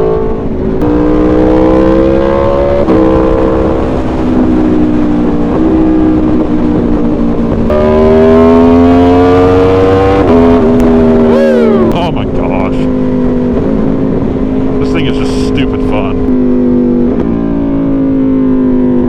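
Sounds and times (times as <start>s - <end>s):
motorcycle engine under throttle: 0.0s - 19.0s.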